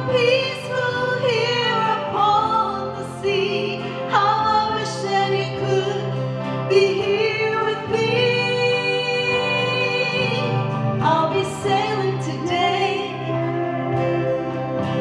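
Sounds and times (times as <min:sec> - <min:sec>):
woman singing: 0:00.0 - 0:14.7
instrumental accompaniment: 0:00.0 - 0:15.0.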